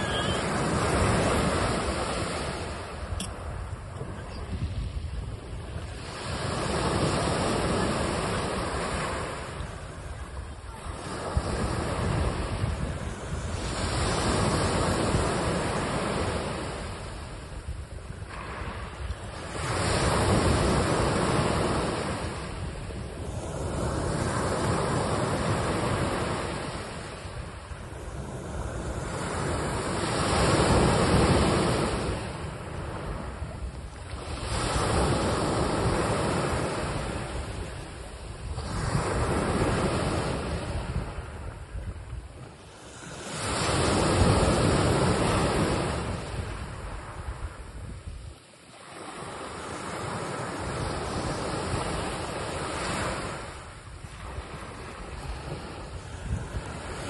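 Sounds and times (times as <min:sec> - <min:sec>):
sea waves breaking on a beach: 0:00.0 - 0:57.0.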